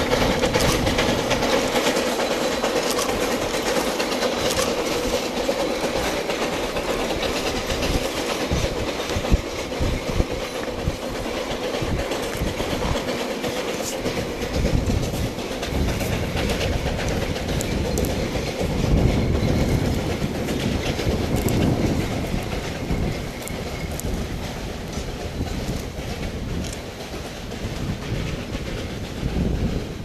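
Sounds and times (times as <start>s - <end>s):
train wheels clacking on rail joints: 0.0s - 30.0s.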